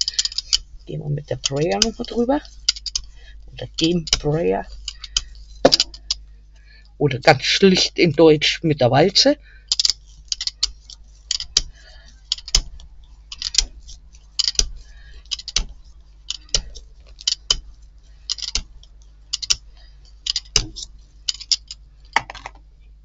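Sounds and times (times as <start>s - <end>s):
rubber roller clicking and rattling: 0.0s - 6.3s, 9.2s - 22.7s.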